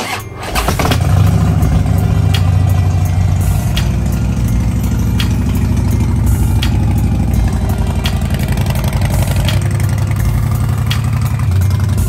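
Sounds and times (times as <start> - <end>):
motorcycle engine idling: 0.5 - 12.0.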